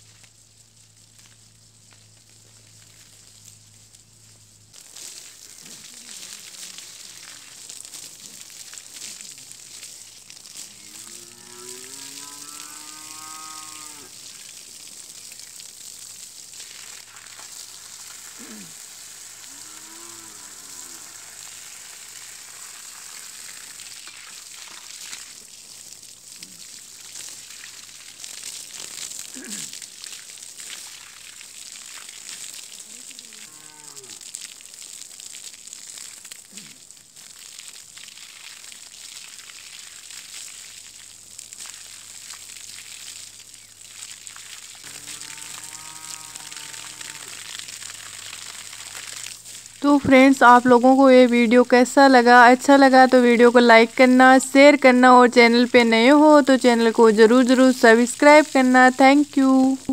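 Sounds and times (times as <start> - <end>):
garden hose spraying water: 0.0 - 59.9.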